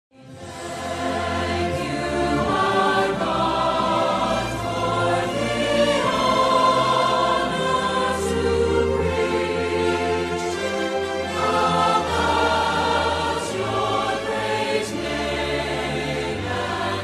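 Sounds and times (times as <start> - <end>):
choir singing sustained chords: 0.2 - 17.0
orchestral backing: 0.2 - 17.0.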